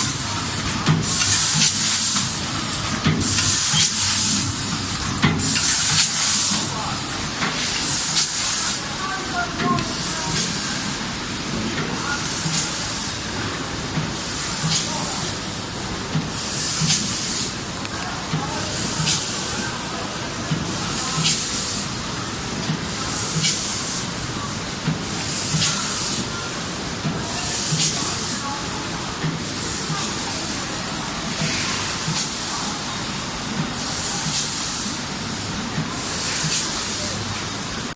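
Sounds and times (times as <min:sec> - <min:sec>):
packaging machine hissing: 0:00.0 - 0:11.2, 0:11.9 - 0:17.6, 0:18.4 - 0:24.2, 0:25.0 - 0:37.8.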